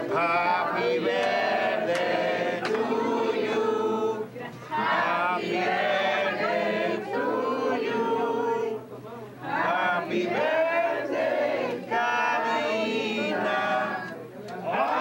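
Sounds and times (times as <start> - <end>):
people singing together: 0.0 - 15.0.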